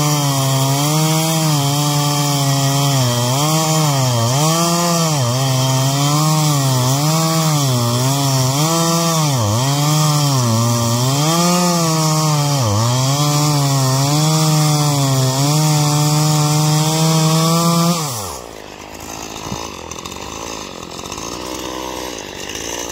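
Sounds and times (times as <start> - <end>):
chainsaw cutting log: 0.0 - 22.9.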